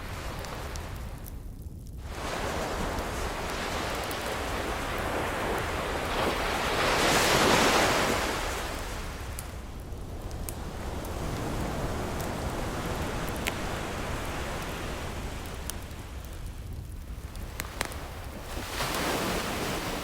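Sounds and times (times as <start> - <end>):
faint wood fire crackles: 0.0 - 20.0.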